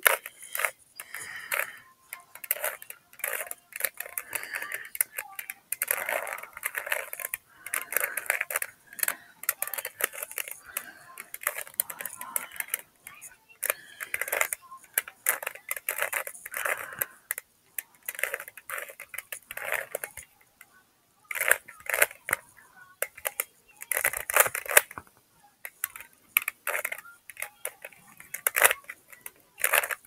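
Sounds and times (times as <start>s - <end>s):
plastic puzzle cube clicking: 0.0s - 30.0s.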